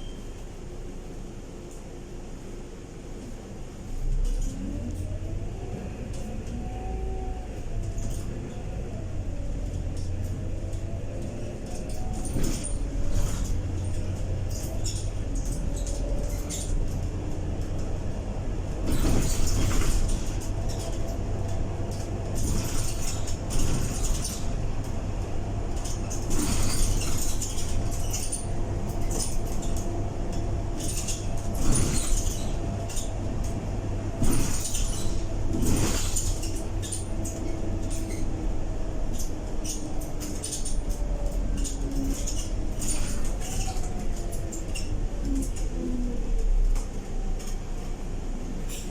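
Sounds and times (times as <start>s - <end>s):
bus engine drone: 0.0s - 48.9s.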